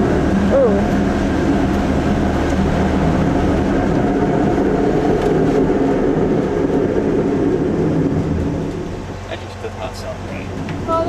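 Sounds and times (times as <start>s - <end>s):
motorhome engine running: 0.0s - 11.0s.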